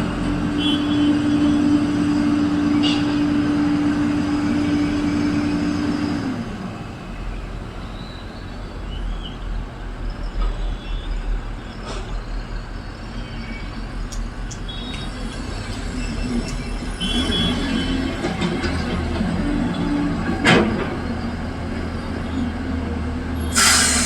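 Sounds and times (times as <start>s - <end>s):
diesel engine rumble: 0.0s - 24.0s.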